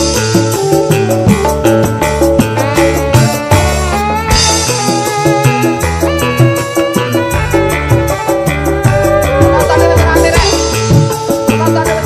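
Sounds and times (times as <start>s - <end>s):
instrumental band music: 0.0s - 12.0s.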